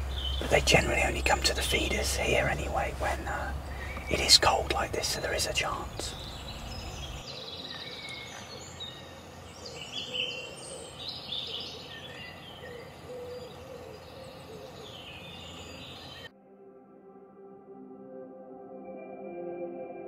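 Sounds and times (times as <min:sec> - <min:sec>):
small birds chirping: 0:00.0 - 0:16.3
low outdoor background: 0:00.0 - 0:16.8.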